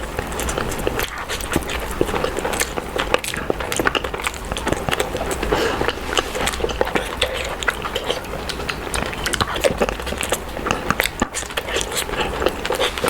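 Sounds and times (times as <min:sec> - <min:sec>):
biting and chewing food: 0:00.0 - 0:13.0
wet mouth clicks: 0:00.2 - 0:13.0.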